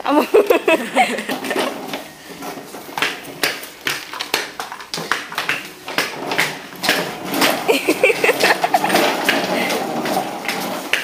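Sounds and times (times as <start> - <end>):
plastic wheels rolling on tiles: 0.3 - 11.0.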